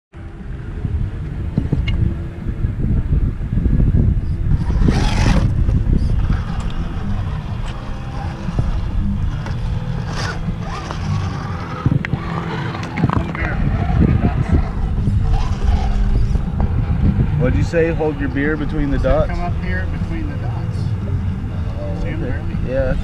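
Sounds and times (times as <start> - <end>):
wind buffeting microphone: 0.2 - 23.0
electric motor whining: 0.4 - 23.0.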